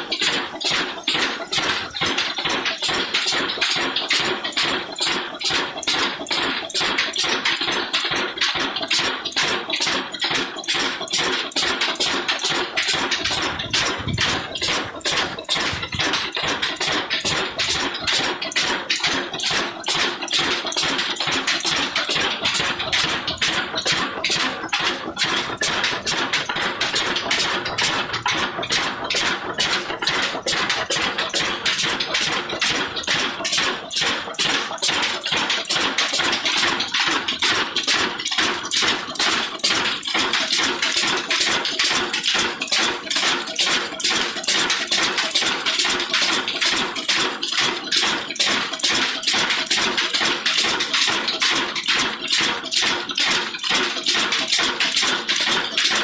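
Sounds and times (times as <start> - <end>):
stationary diesel engine knocking: 0.0 - 56.0.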